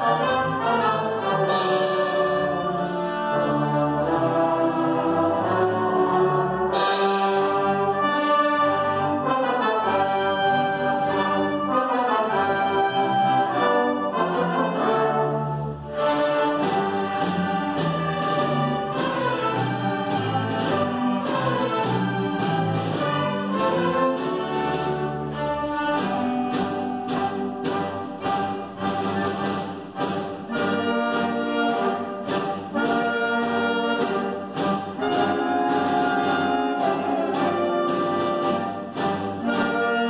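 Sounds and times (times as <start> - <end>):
orchestra playing loudly: 0.0 - 40.0.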